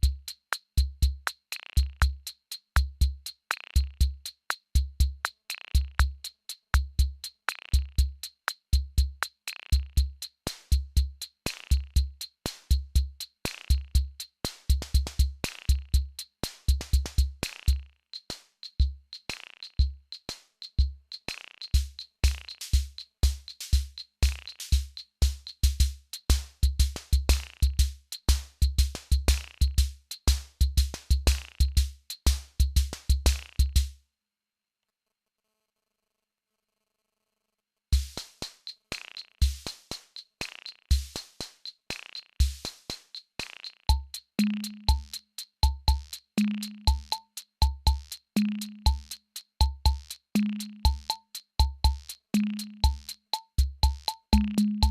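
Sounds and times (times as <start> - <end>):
clicky hi-hats: 0.0 - 33.9, 38.0 - 54.9
electronic drum machine beat: 0.0 - 33.9, 38.0 - 54.9.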